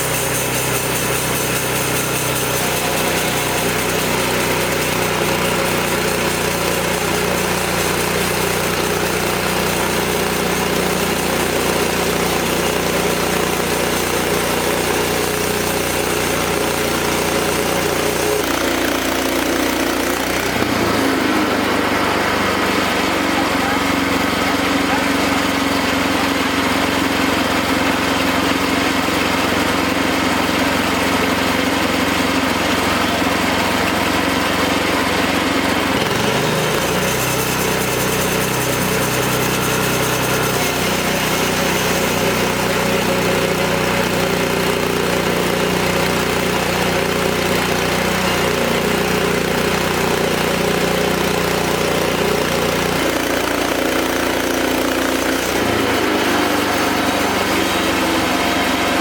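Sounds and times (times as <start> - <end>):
band sawmill engine running: 0.0 - 59.0.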